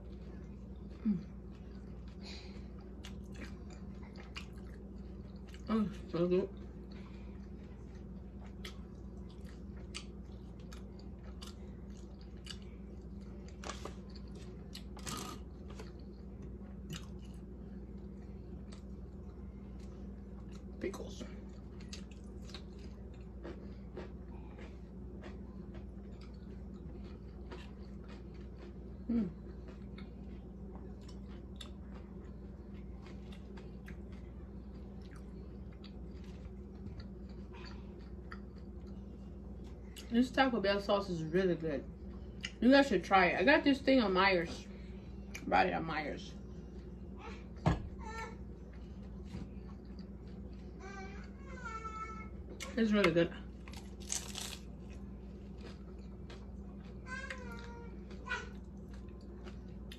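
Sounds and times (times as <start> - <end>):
chewing and crunching taco: 0.0 - 40.4, 41.8 - 42.6, 46.3 - 52.8, 53.4 - 59.9.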